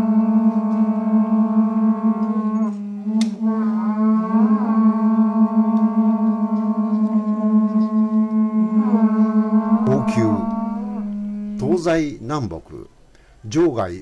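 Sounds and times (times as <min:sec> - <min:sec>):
conch-shell trumpets droning: 0:00.0 - 0:12.9.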